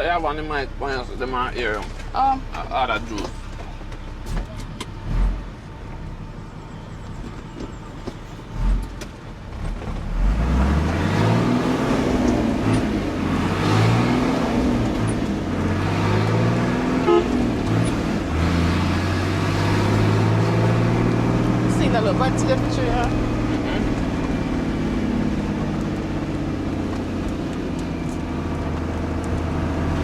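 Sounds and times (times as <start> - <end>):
truck engine accelerating through gears: 0.0 - 30.0.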